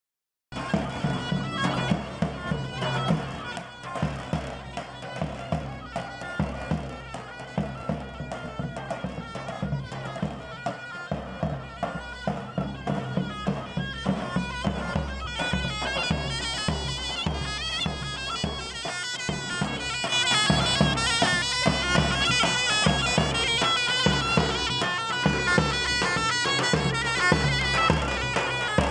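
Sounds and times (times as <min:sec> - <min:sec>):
davul drum beats: 0:00.5 - 0:28.9
shrill zurna dance tune: 0:00.6 - 0:28.9.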